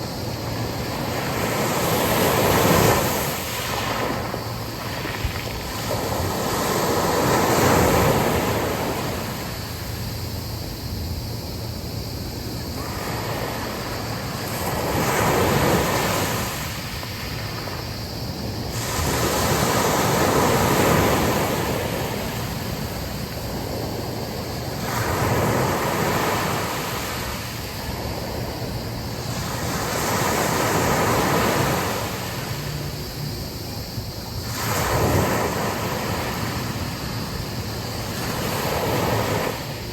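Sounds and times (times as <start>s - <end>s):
sea waves breaking on beach: 0.0s - 10.7s, 12.6s - 39.9s
wind blowing: 0.0s - 39.9s.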